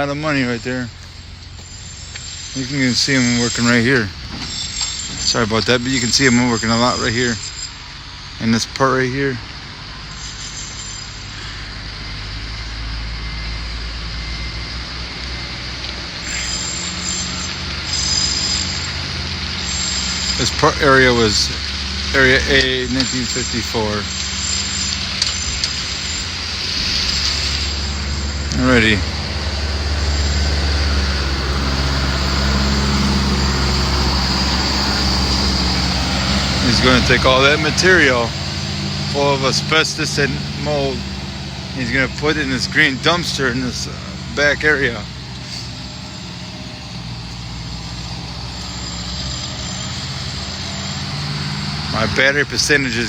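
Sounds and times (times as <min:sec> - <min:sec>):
heavy machinery engine running: 0:00.0 - 0:53.0.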